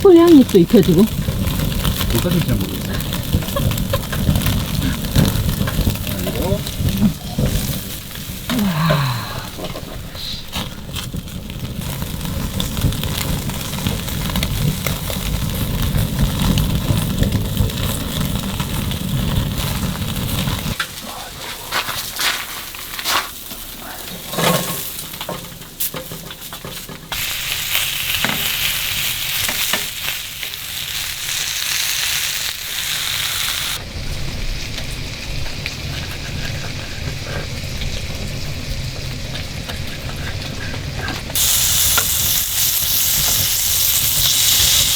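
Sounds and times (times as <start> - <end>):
meat sizzling on a grill: 0.0 - 44.9.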